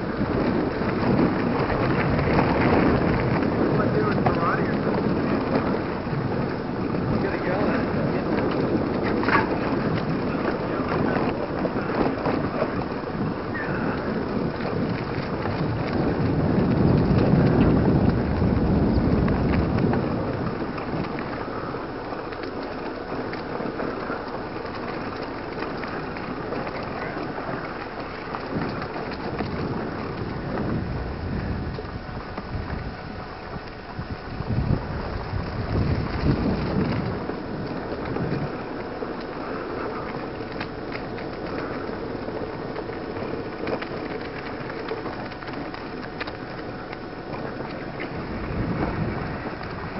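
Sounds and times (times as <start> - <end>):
bike rattling on dirt trail: 0.0 - 49.9
wind buffeting microphone: 0.0 - 49.9.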